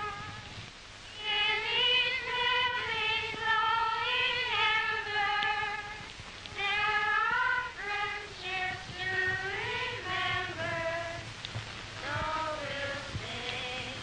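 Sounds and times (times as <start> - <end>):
young voices singing together: 0.0 - 14.0.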